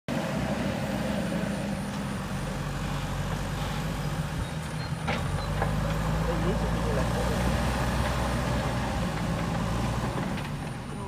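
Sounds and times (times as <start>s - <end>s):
diesel machinery engine running: 0.1s - 11.0s.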